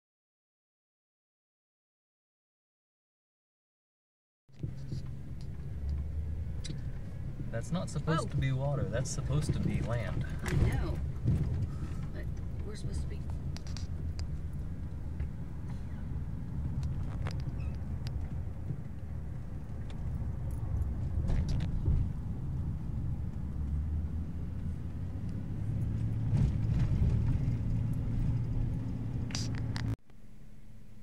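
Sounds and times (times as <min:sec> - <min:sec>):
engine and tyre rumble in cabin: 0:04.5 - 0:31.0.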